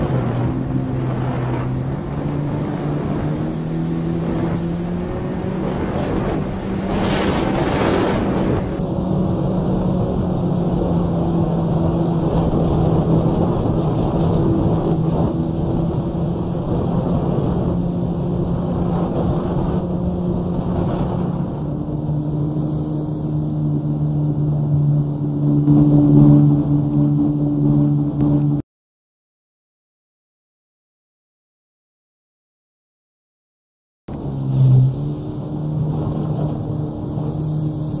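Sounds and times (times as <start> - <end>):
jet ski engine running: 0.0 - 28.6, 34.1 - 38.0.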